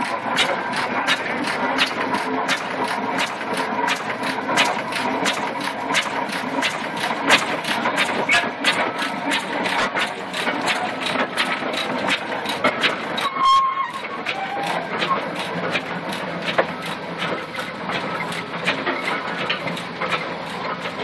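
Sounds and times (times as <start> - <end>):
road roller engine knocking: 0.0 - 21.0.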